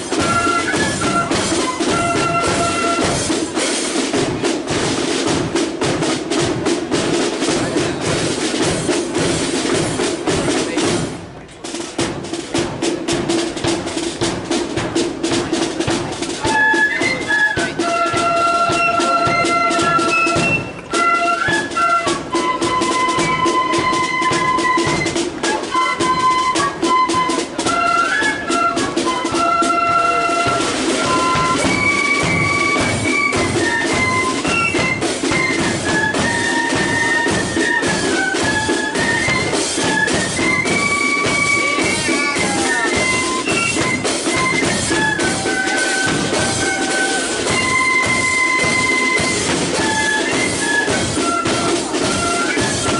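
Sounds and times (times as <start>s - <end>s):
flutes playing melody: 0.0s - 11.0s, 13.1s - 52.9s
snare and bass drums: 0.0s - 52.9s.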